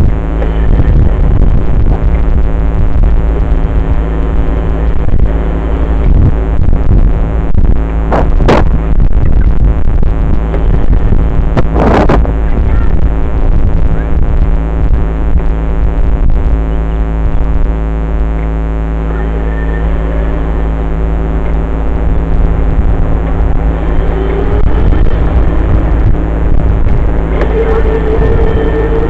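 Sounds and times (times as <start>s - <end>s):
dirt bike engine running: 0.0s - 29.0s
wind rumble on microphone: 0.0s - 29.0s.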